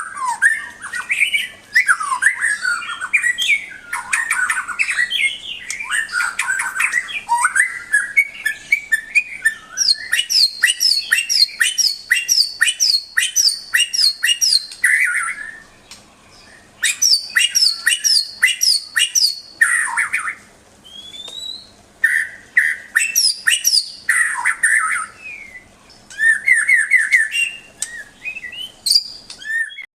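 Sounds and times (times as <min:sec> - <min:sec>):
songbird singing varied whistles: 0:00.0 - 0:15.7, 0:16.4 - 0:29.9.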